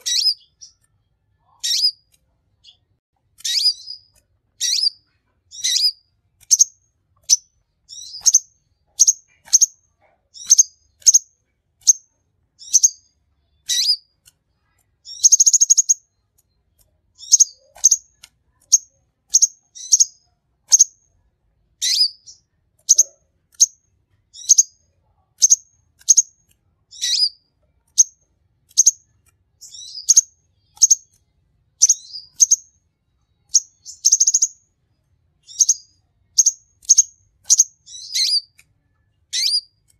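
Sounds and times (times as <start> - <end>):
buzzy bird trill: 0.0 - 2.8, 3.4 - 14.2, 15.0 - 16.2, 17.2 - 21.0, 21.8 - 24.8, 25.4 - 31.2, 31.8 - 32.8, 33.4 - 34.6, 35.4 - 38.6, 39.3 - 39.8
sunbird chirping: 0.0 - 2.8, 3.4 - 14.1, 15.0 - 16.4, 17.2 - 21.0, 21.8 - 29.0, 29.6 - 31.2, 31.8 - 34.7, 35.4 - 38.6, 39.3 - 39.7.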